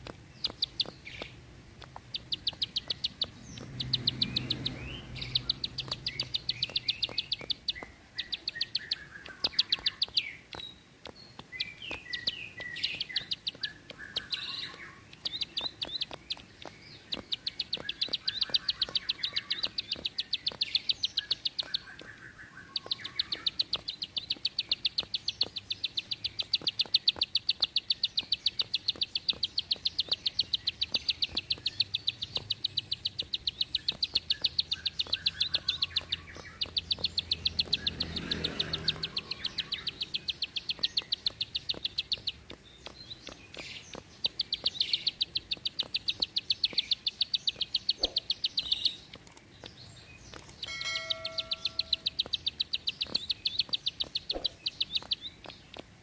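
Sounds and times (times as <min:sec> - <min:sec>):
bird singing clicking notes: 0:00.0 - 0:56.0.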